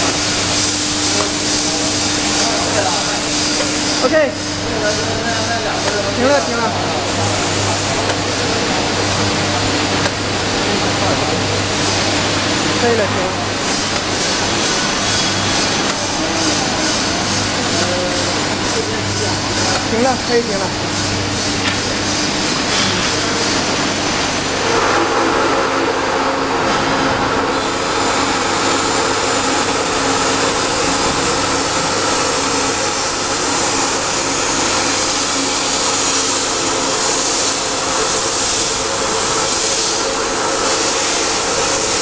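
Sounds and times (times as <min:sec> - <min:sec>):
packing machine humming and whirring: 0:00.0 - 0:42.0.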